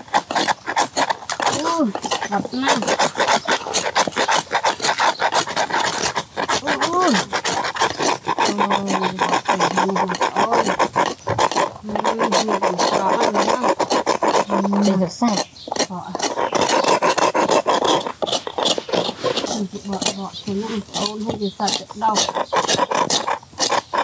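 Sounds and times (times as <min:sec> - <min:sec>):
rapid rasping scrape: 0:00.0 - 0:24.0.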